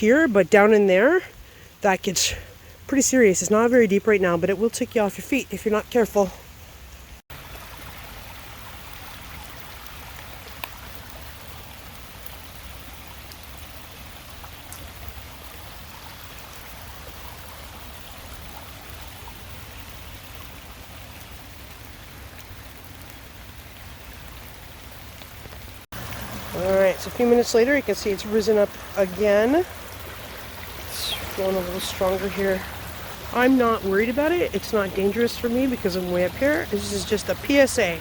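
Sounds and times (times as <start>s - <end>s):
creek rushing: 0.0s - 38.0s
falling rain: 0.0s - 38.0s.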